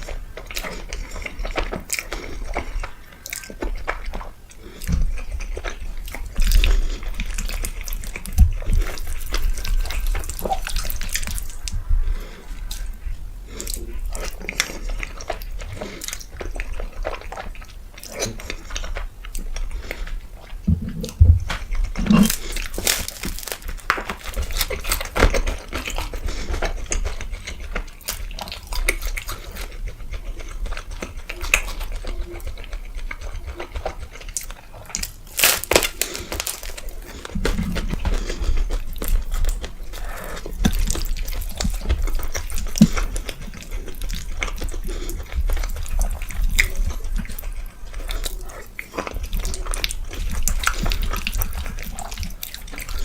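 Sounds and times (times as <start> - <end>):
wet chewing: 0.0 - 53.0.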